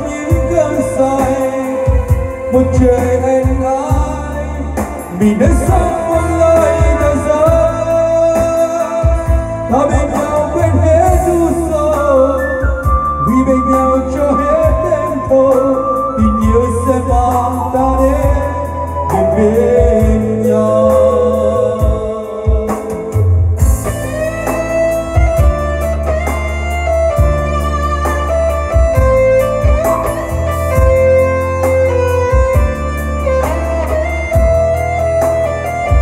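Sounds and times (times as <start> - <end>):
bass and drum beat: 0.0 - 36.0
keyboard melody: 0.0 - 36.0.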